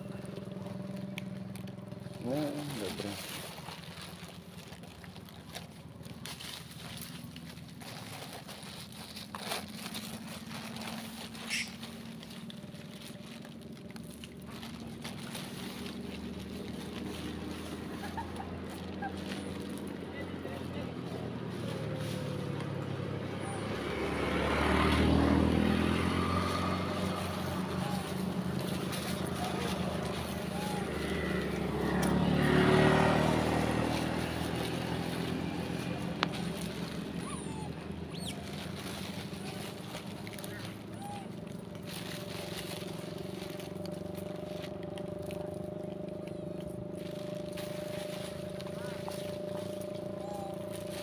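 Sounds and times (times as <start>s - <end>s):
motorbike engine passing: 0.0s - 51.0s.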